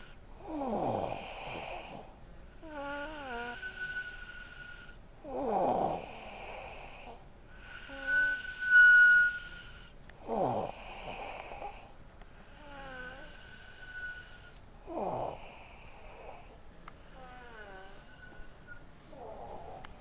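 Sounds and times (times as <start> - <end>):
person snoring: 0.5 - 9.5, 10.3 - 11.8, 12.5 - 16.5, 17.1 - 19.9
thin whistling breaths: 1.1 - 20.0.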